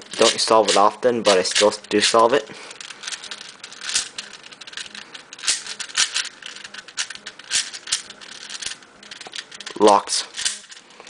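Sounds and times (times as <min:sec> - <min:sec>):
puzzle cube clicking as turned: 0:00.0 - 0:10.8.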